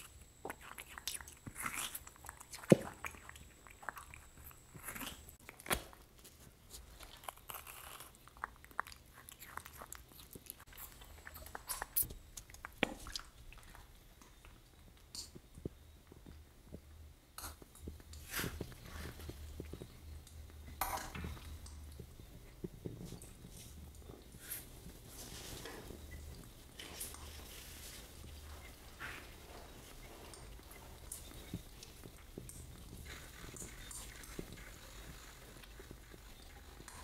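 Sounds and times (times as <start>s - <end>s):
monkey chewing crisp fruit: 0.0s - 15.3s, 17.4s - 37.0s.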